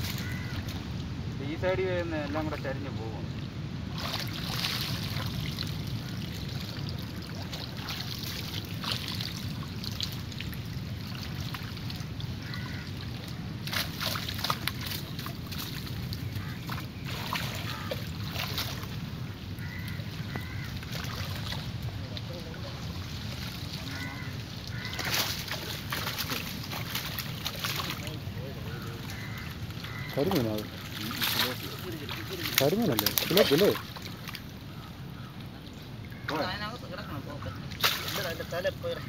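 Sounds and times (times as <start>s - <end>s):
water sloshing and splashing: 0.0s - 39.0s.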